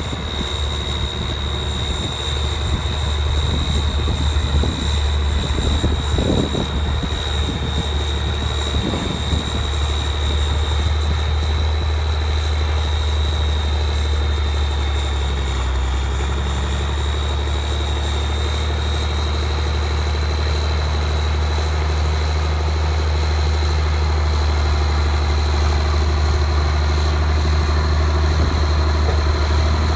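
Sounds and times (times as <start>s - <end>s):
high-pitched whine: 0.0s - 29.9s
tractor diesel engine idling: 0.0s - 29.9s.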